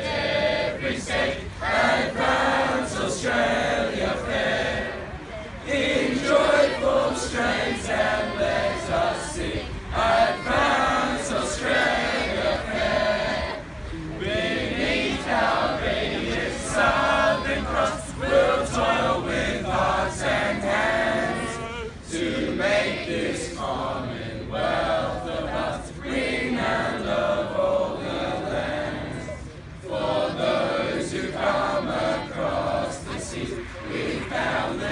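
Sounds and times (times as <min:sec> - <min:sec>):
group singing unaccompanied: 0:00.0 - 0:34.9.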